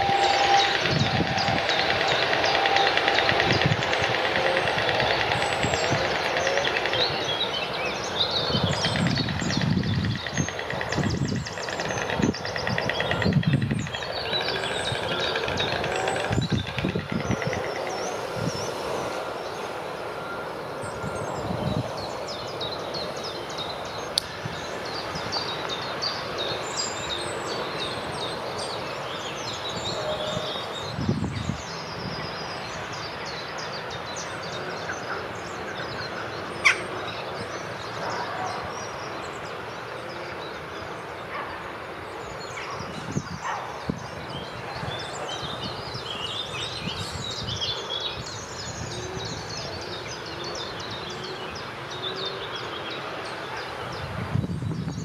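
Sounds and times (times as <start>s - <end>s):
outdoor background hiss: 0.0s - 55.0s
songbirds chirping: 0.0s - 55.0s.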